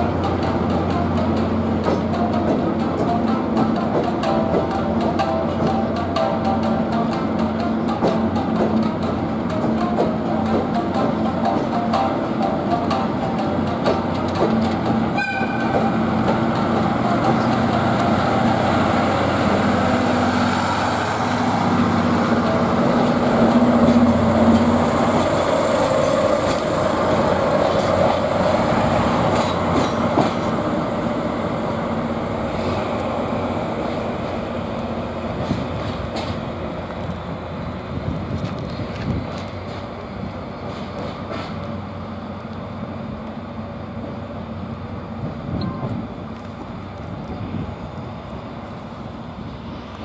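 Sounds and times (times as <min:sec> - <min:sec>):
diesel locomotive engine running: 0:00.0 - 0:50.0
train wheels rolling over rails: 0:00.0 - 0:50.0.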